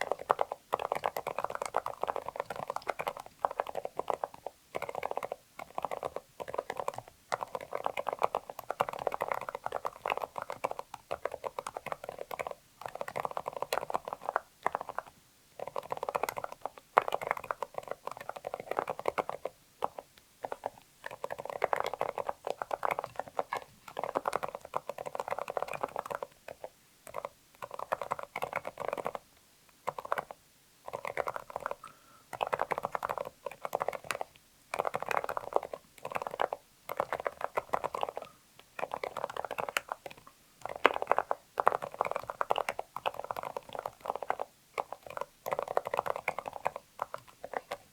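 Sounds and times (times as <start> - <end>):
soft muted keyboard keystrokes: 0.0 - 47.9.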